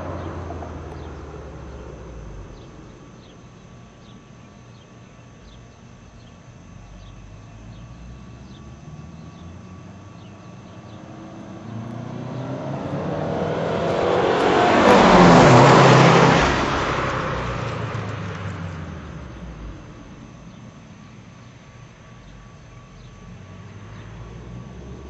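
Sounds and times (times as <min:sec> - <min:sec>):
car engine and exhaust driving past: 0:00.0 - 0:04.2, 0:07.0 - 0:25.0.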